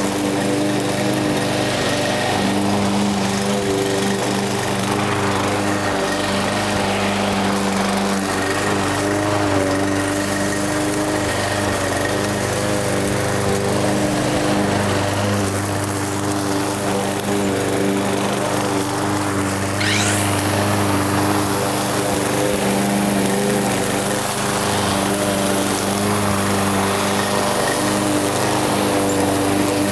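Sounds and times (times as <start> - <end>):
lawn mower engine running: 0.0 - 29.9.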